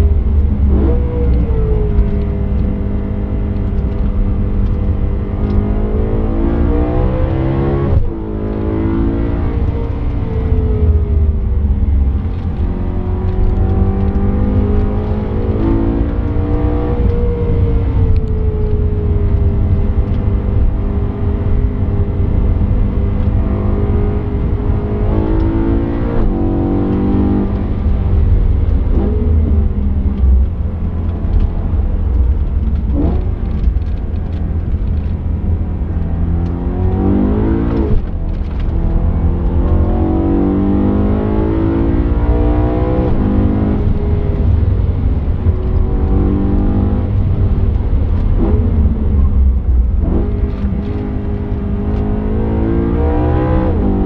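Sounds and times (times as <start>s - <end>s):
car engine revving at full throttle: 0.0s - 54.0s.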